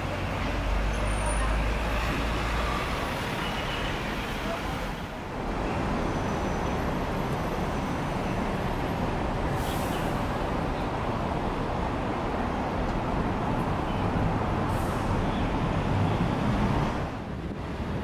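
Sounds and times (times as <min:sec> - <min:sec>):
city road traffic hum: 0:00.0 - 0:18.0.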